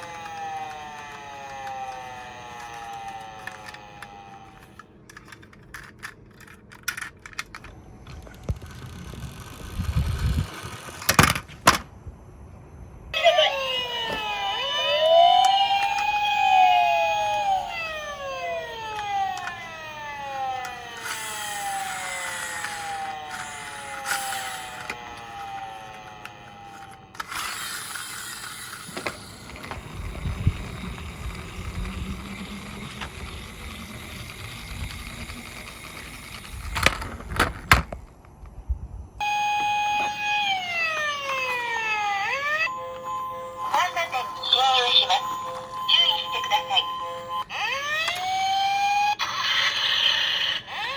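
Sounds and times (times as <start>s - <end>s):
toy electronic siren: 0.0s - 11.0s, 13.1s - 37.3s, 39.2s - 50.9s
toy car rolling down slope: 0.0s - 11.8s, 13.2s - 38.1s, 39.2s - 50.9s.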